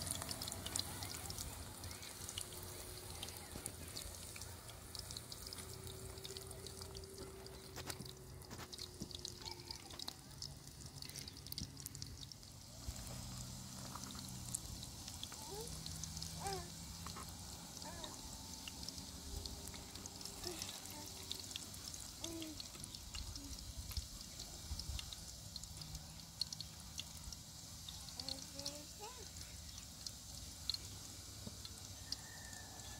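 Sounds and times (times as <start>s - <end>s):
eggplant sizzling in hot oil: 0.0s - 32.9s.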